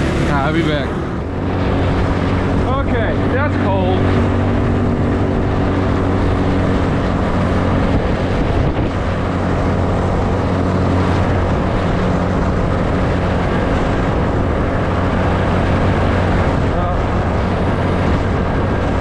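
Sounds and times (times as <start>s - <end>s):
car engine hum: 0.0s - 19.0s
road and rushing noise: 0.0s - 19.0s.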